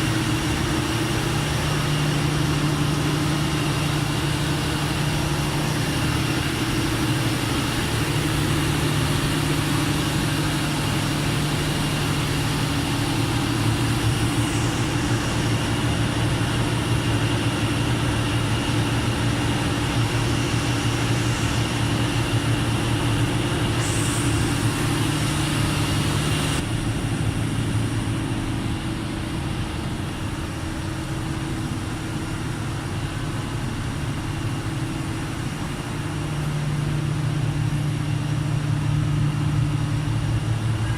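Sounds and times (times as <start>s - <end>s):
diesel generator humming: 0.0s - 40.9s.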